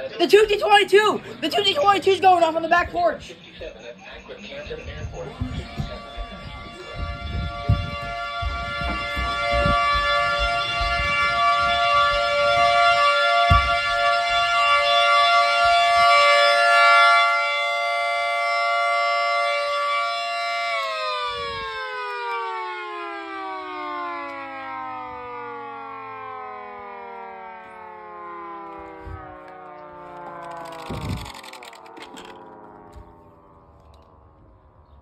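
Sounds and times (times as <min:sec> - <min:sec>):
two-tone siren winding down: 0:04.8 - 0:34.8.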